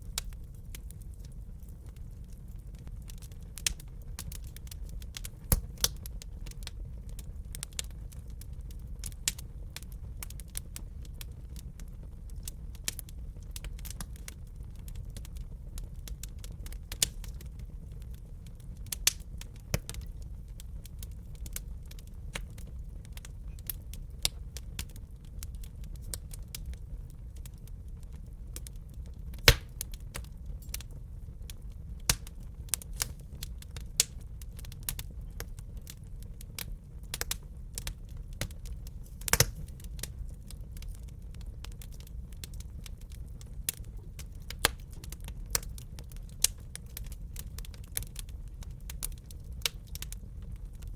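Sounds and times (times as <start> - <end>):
fire pops and snaps: 0.0 - 50.9
wood fire crackling: 0.0 - 50.9.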